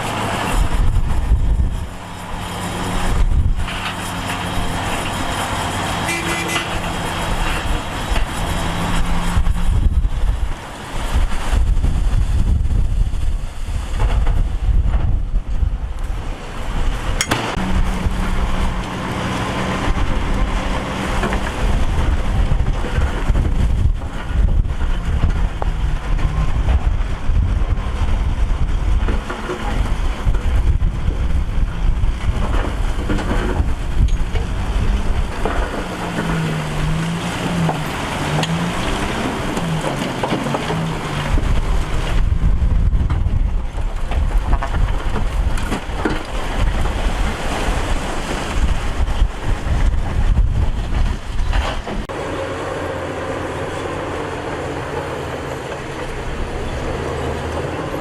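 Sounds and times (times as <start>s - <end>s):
diesel machinery engine: 0.0s - 58.0s
wind buffeting microphone: 0.0s - 58.0s.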